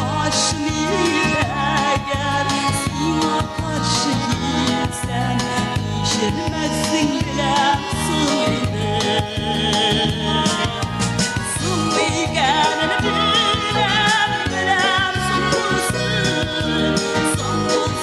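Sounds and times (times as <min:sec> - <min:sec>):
keyboard backing with bass beat: 0:00.0 - 0:18.0
woman singing into microphone: 0:00.0 - 0:18.0.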